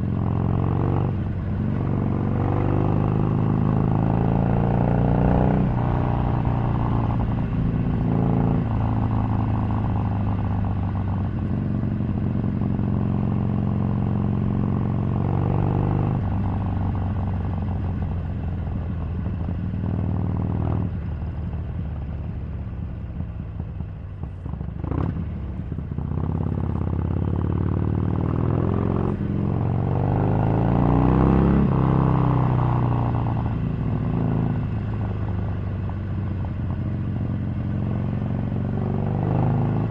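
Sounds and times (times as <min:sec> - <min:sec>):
motorcycle engine accelerating: 0:00.0 - 0:22.4, 0:23.1 - 0:39.9.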